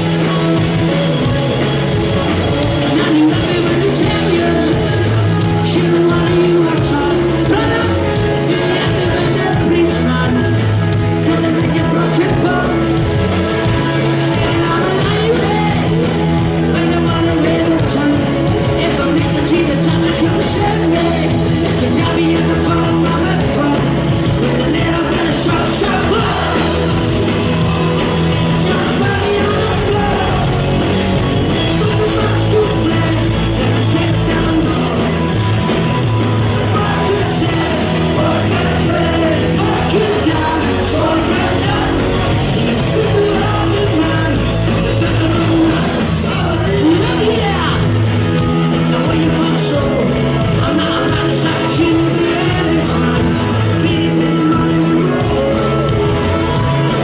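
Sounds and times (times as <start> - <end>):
lead vocal singing: 0.0 - 57.0
live rock band playing: 0.0 - 57.0.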